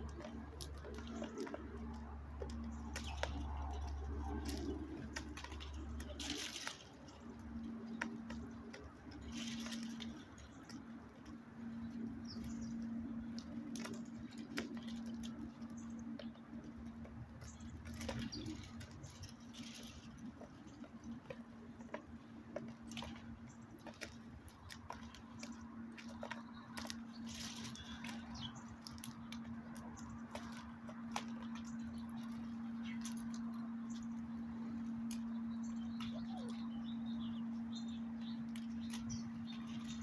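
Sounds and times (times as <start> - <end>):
small animals scratching and tapping: 0.0 - 40.0
steady low hum: 0.0 - 40.0.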